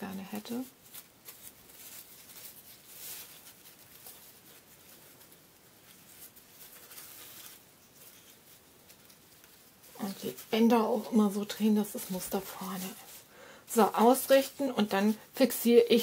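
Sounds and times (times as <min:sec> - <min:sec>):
ribbons rustling: 0:00.0 - 0:16.0.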